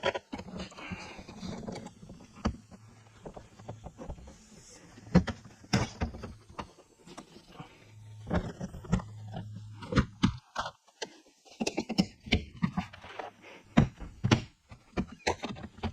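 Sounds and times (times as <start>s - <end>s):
low steady hum: 0.4s - 14.8s.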